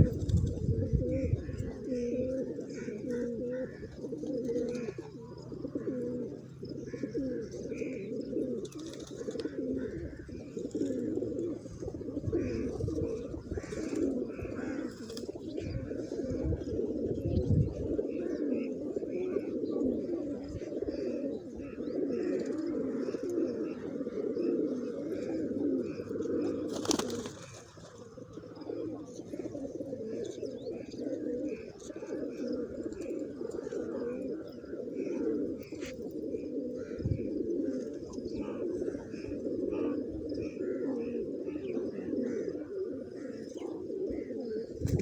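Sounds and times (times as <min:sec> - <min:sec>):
pigeons cooing: 0:00.0 - 0:45.0.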